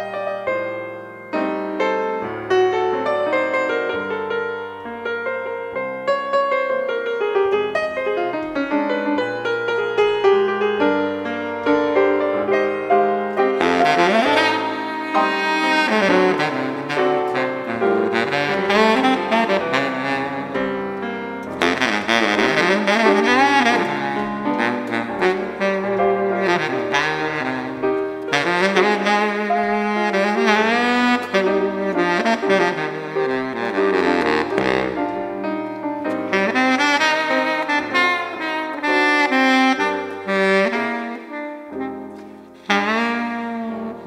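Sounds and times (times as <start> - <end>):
alto saxophone melody: 0.0 - 44.0
piano playing: 0.0 - 44.0.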